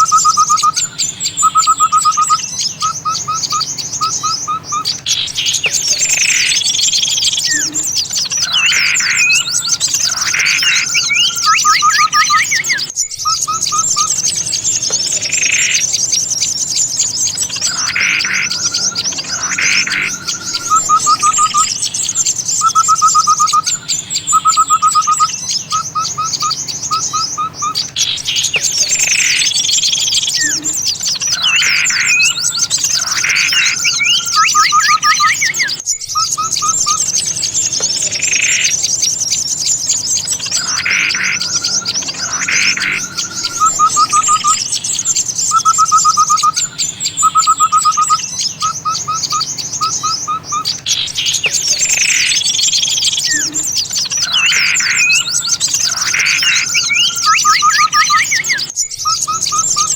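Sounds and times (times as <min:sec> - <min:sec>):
rapid bird trill: 0:00.0 - 0:59.9
small songbirds chirping: 0:00.0 - 0:59.9.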